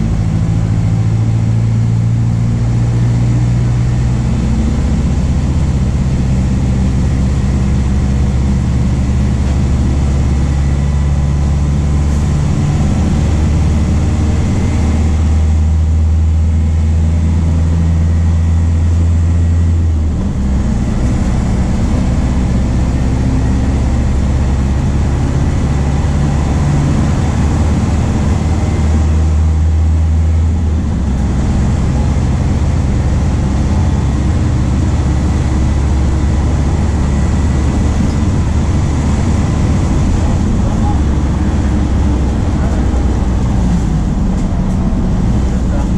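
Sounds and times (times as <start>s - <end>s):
bus diesel engine humming: 0.0s - 45.9s.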